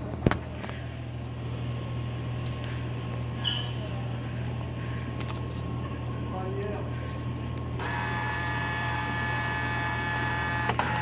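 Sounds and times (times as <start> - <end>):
vending machine humming: 0.0 - 11.0.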